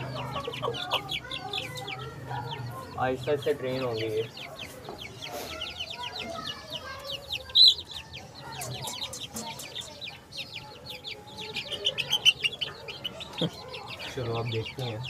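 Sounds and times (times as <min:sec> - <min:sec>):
chicks peeping: 0:00.0 - 0:15.0
hens clucking: 0:00.0 - 0:15.0.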